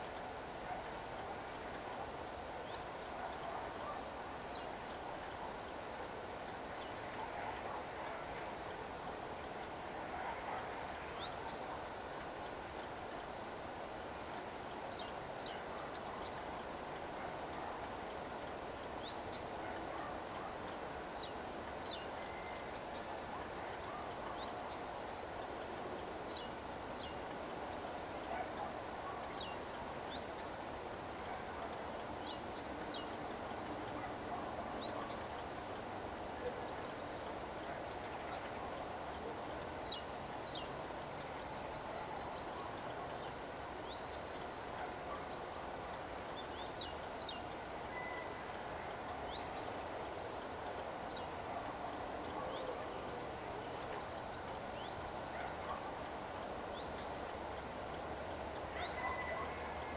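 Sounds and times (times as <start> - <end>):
birds chirping: 0.6 - 59.9.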